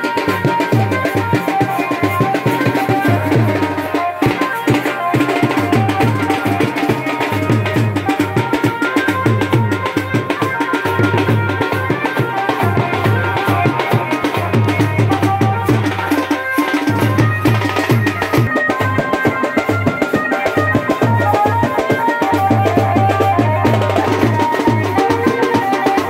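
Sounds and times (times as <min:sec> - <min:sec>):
drums playing dance beat: 0:00.0 - 0:26.0.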